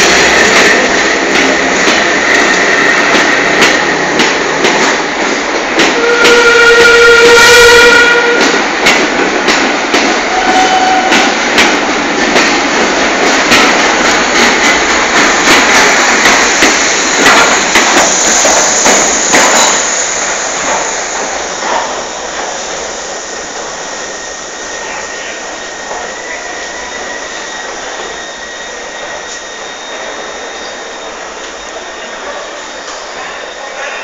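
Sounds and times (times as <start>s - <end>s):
train knocks and clanks: 0.0s - 34.0s
train rumble: 0.0s - 34.0s.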